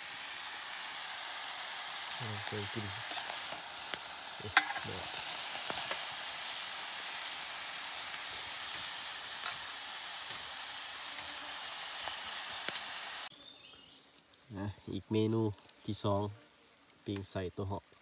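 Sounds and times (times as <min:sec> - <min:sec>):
meat sizzling in a pot: 0:00.0 - 0:18.0.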